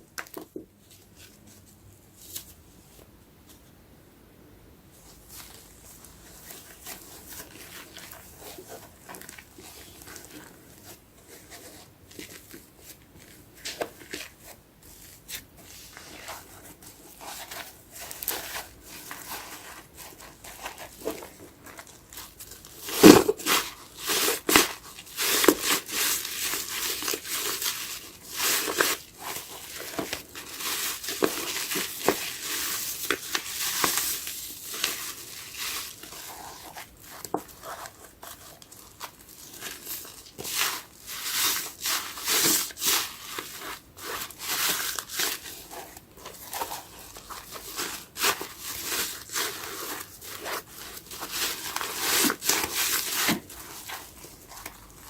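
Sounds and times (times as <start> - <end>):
soapy sponge squishing: 5.0 - 55.0.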